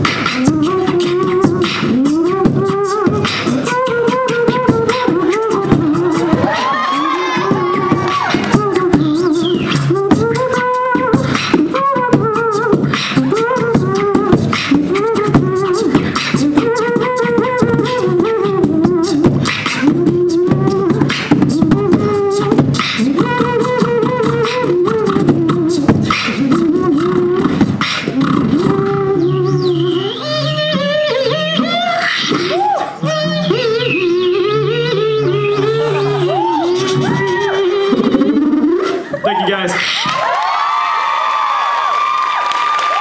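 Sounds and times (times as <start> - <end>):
vocal melody: 0.0 - 40.3
beatboxing drum sounds: 0.0 - 41.4.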